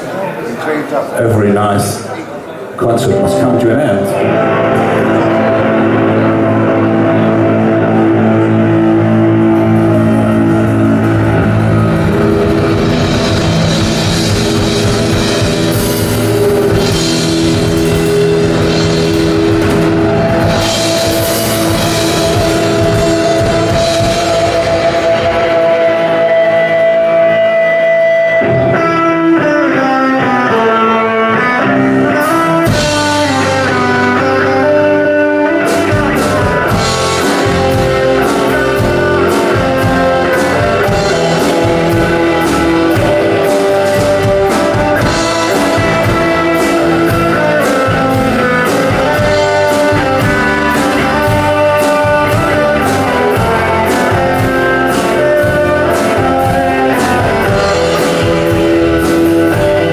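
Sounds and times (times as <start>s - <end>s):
electric guitar: 2.8s - 59.9s
drum kit: 3.0s - 59.9s.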